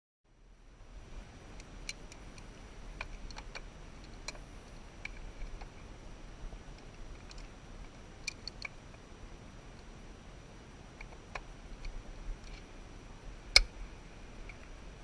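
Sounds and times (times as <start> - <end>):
faint low hum: 0.3 - 15.0.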